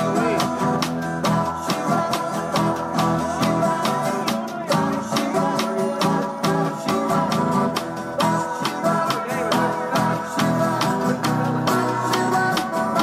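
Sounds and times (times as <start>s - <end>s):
guitar: 0.0s - 13.0s.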